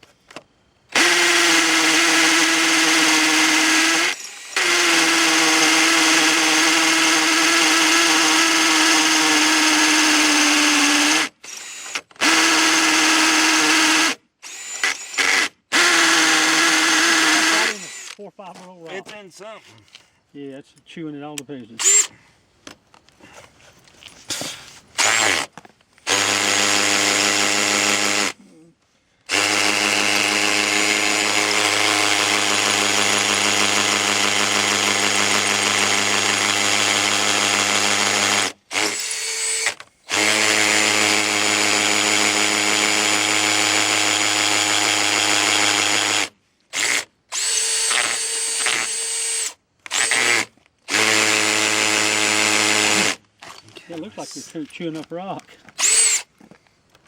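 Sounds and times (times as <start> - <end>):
drill bit grinding through rock: 0.9 - 18.2, 21.8 - 22.1, 25.0 - 28.4, 29.3 - 55.1, 55.7 - 56.3
drill boring into concrete: 0.9 - 18.2, 21.8 - 22.1, 25.0 - 28.4, 29.2 - 53.6, 55.7 - 56.3.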